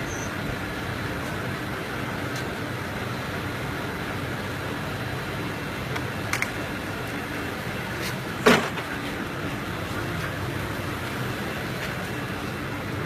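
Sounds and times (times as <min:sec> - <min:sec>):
mechanical background hum: 0:00.0 - 0:13.0.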